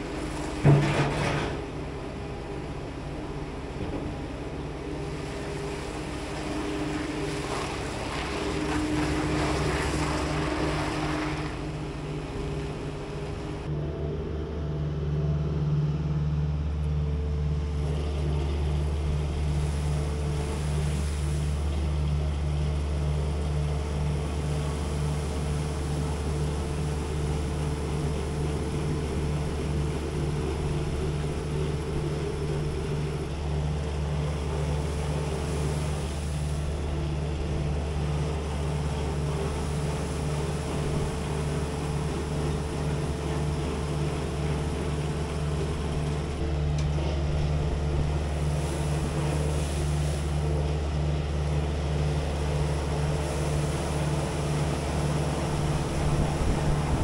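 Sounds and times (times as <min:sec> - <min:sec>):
diesel engine running under load: 0:00.0 - 0:57.0
hydraulic facer shaving silage: 0:00.0 - 0:57.0.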